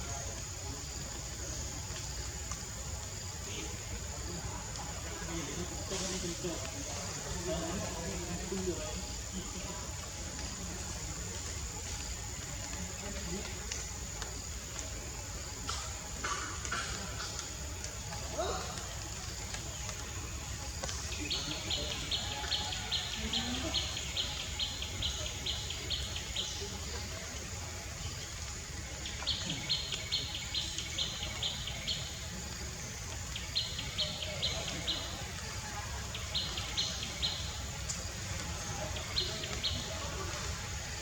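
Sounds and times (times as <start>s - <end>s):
low background noise: 0.0s - 41.0s.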